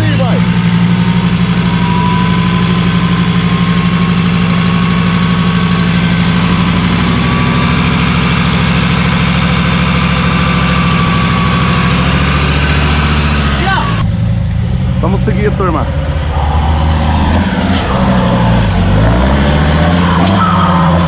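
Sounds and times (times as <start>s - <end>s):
off-road vehicle engine running: 0.0s - 21.0s
thin high whine rising in pitch: 1.3s - 13.4s, 16.0s - 21.0s.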